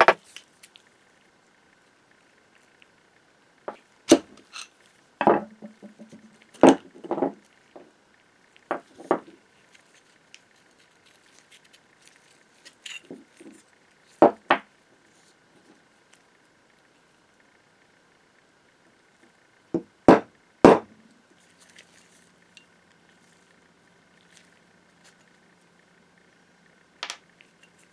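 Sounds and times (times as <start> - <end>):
faint high hum: 0.0 - 27.9.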